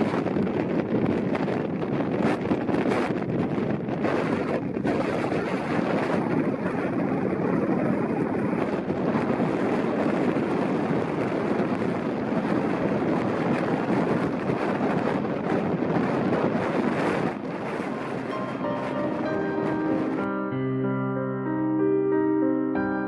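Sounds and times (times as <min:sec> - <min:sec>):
wind blowing across microphone: 0:00.0 - 0:20.6.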